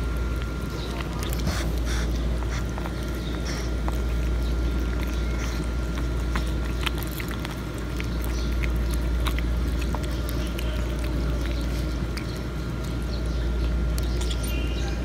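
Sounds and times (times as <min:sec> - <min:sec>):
kittens chewing and crunching fish: 0:00.0 - 0:15.0
steady low rumble: 0:00.0 - 0:15.0.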